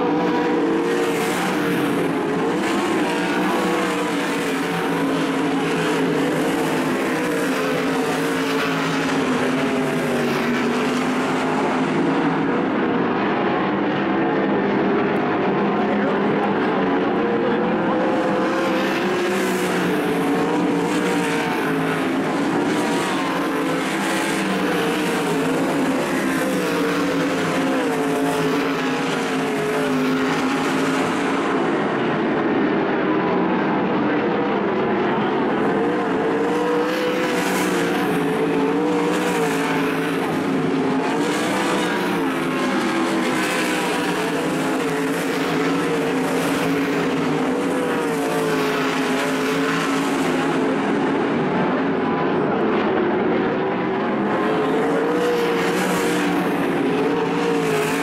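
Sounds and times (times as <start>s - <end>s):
racing car engines: 0.0s - 58.0s.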